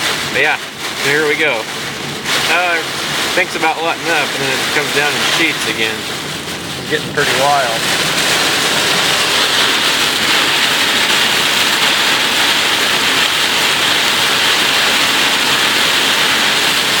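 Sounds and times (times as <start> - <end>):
heavy rain on a car: 0.0 - 17.0.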